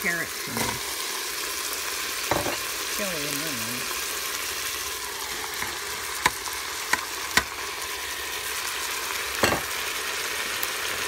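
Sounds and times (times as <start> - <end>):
vegetables and meat sizzling in a pot: 0.0 - 11.0.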